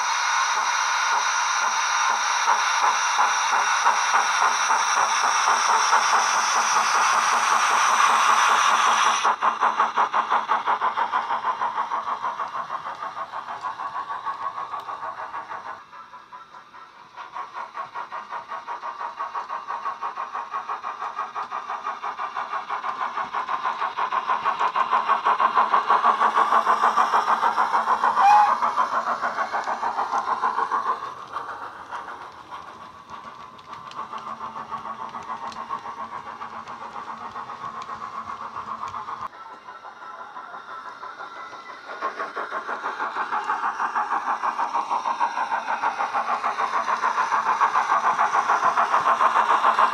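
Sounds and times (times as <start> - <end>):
steam chuffs from small speaker: 0.0 - 49.9.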